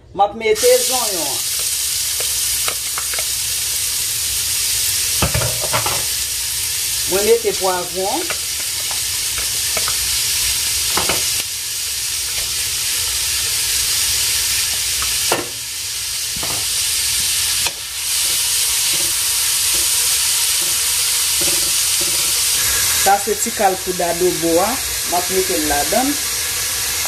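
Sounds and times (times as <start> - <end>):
vegetables sizzling in hot oil: 0.6 - 27.0.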